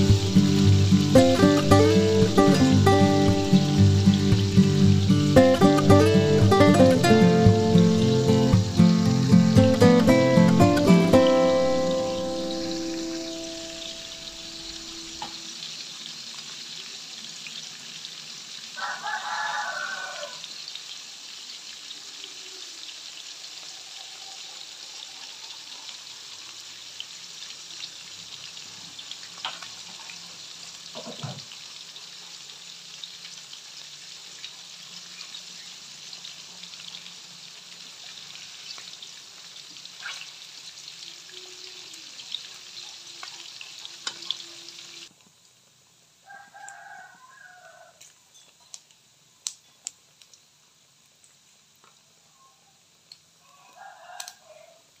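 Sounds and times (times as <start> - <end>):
meat sizzling in oil: 0.0 - 10.1, 10.8 - 52.2.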